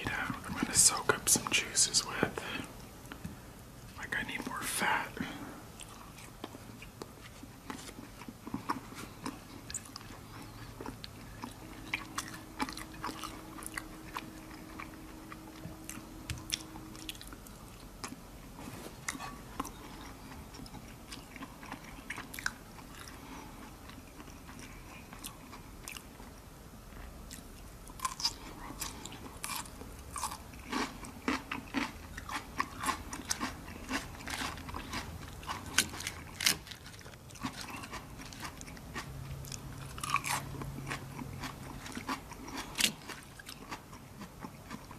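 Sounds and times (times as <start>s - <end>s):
person chewing and crunching: 4.0s - 44.9s.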